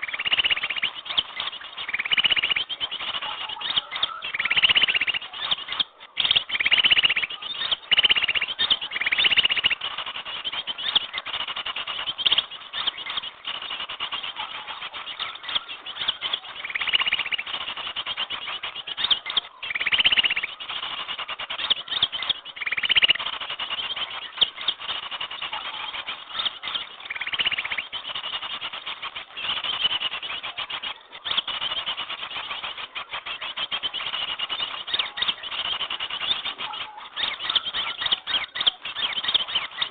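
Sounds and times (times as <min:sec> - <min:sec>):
buzzy bird trills: 0:00.0 - 0:39.9
small birds chattering: 0:00.0 - 0:39.9.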